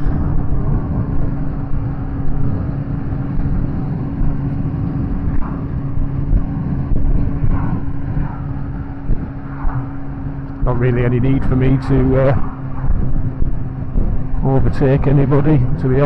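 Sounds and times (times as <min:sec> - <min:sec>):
motorcycle engine cruising: 0:00.0 - 0:16.0
wind and road rush: 0:00.0 - 0:16.0.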